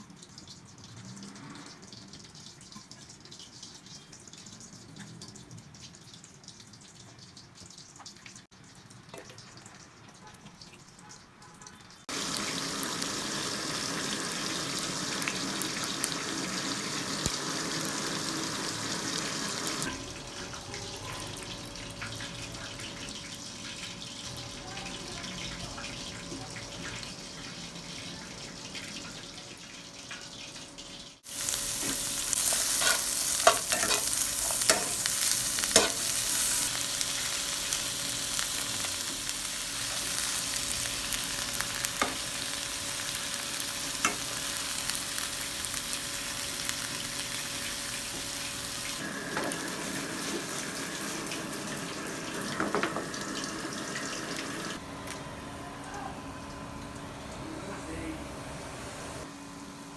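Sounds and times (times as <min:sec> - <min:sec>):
fish sizzling in hot oil: 0:00.1 - 0:54.8.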